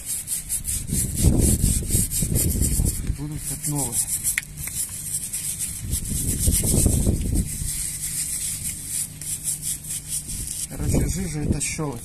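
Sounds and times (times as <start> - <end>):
brush scrubbing metal piston: 0.0 - 11.5.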